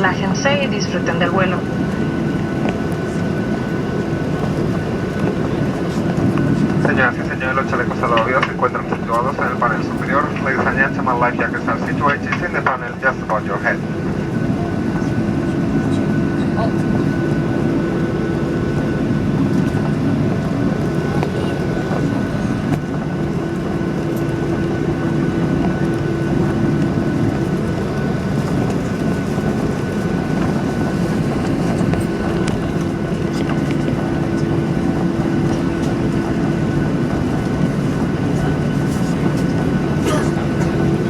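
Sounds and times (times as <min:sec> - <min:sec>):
airplane cabin engine noise: 0:00.0 - 0:41.0.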